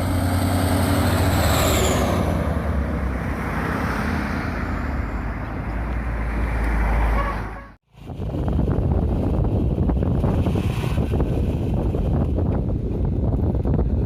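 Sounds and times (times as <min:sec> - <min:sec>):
diesel engine rumbling: 0:00.0 - 0:14.0
road noise: 0:00.0 - 0:14.0.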